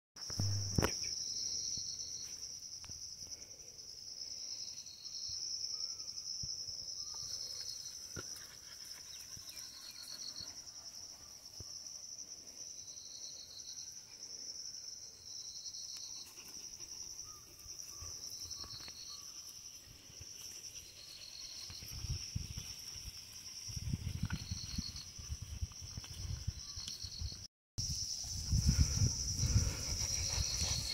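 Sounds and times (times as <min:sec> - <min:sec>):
insects trilling: 0:00.2 - 0:30.9
lower insect chirp: 0:00.2 - 0:30.9.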